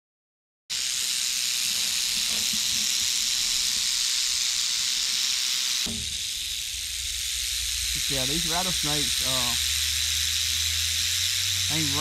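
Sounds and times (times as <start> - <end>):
rattlesnake tail rattling: 0.7 - 12.0.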